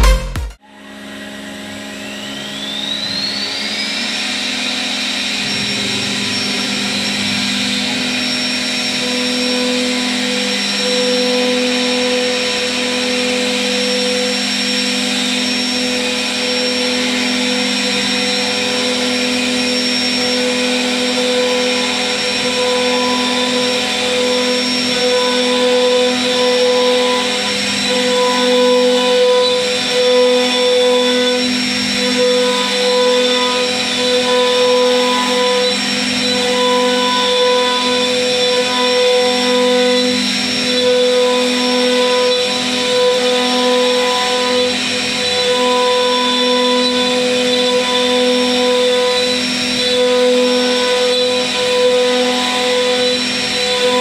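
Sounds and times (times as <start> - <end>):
wood router whining: 0.0 - 54.0.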